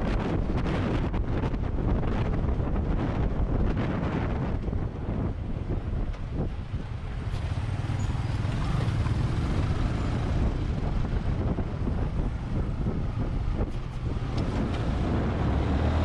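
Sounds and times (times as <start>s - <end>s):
motorcycle engine rumbling: 0.0s - 15.6s
wind noise on microphone: 0.0s - 16.0s.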